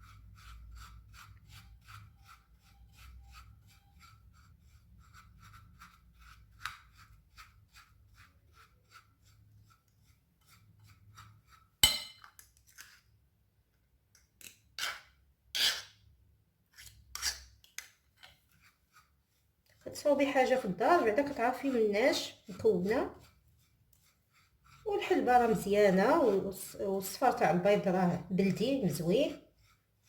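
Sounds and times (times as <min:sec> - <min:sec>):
utensil scraping a bowl: 0:00.0 - 0:13.1, 0:14.4 - 0:16.1, 0:16.7 - 0:30.0.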